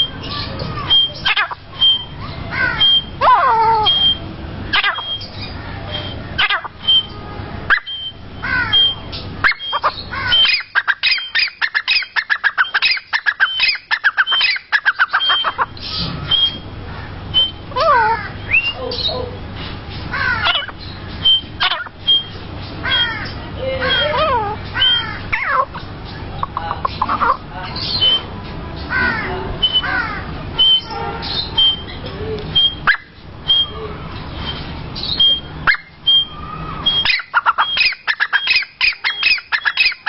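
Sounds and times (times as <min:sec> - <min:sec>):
francolin calling: 0:00.0 - 0:19.4, 0:20.1 - 0:28.3, 0:28.9 - 0:33.8, 0:34.5 - 0:40.0.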